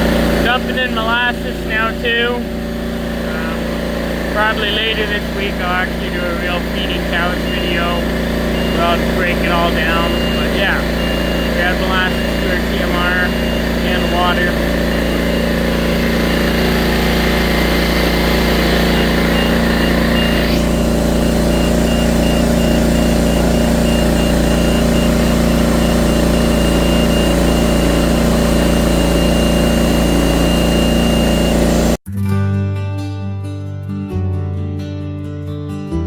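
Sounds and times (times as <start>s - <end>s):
diesel engine running steadily: 0.0s - 32.0s
feed mixer working: 0.0s - 32.0s.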